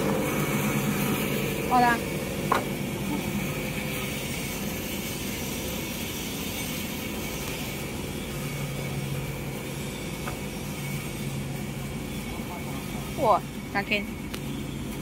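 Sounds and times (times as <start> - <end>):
mechanical running noise with hum: 0.0 - 15.0.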